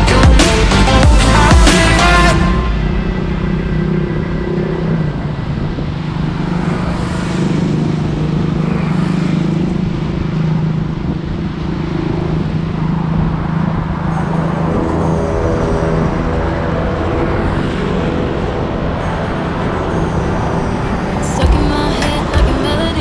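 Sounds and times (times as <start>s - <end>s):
motor vehicle running: 0.0s - 23.0s
road noise: 0.0s - 23.0s.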